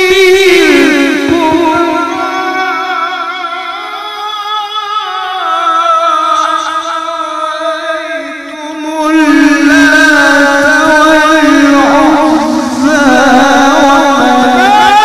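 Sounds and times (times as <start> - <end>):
man reciting melodic chant: 0.0 - 15.0.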